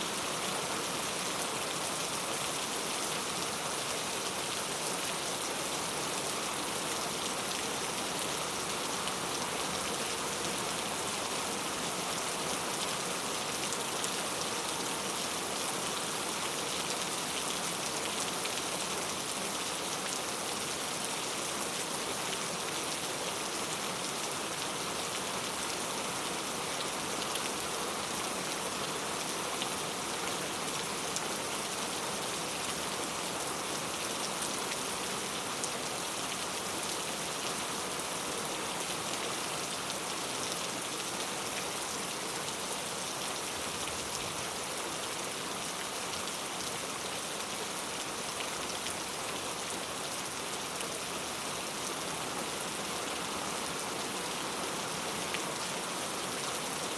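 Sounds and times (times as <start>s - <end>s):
heavy rain on hard surfaces: 0.0s - 56.9s.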